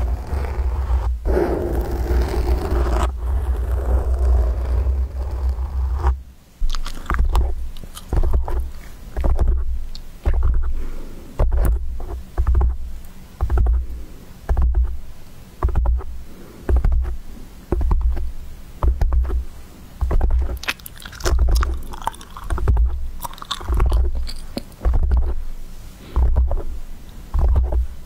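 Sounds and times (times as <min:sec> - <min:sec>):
hands rubbing on microphone: 0:00.0 - 0:06.2, 0:06.8 - 0:23.1, 0:23.7 - 0:28.0
deep rumbling thumps: 0:00.0 - 0:10.8, 0:11.4 - 0:25.5
scratchy crackling over mic: 0:00.0 - 0:28.0.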